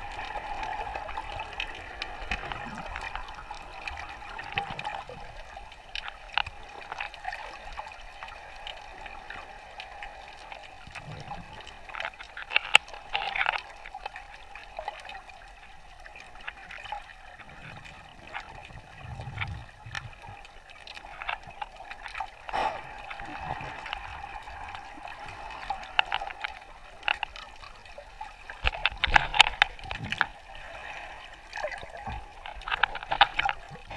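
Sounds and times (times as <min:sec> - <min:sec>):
water gurgling and bubbling: 0:00.0 - 0:08.2, 0:14.6 - 0:33.9
sharp clicks and crackles: 0:00.0 - 0:33.9.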